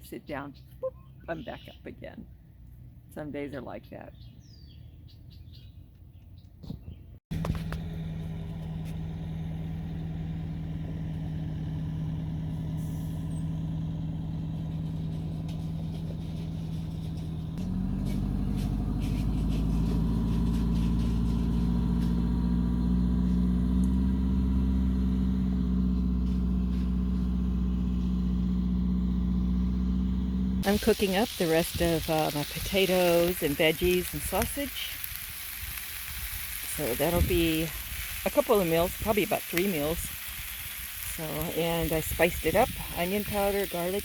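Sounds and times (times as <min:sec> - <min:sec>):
engine running: 0:07.3 - 0:44.0.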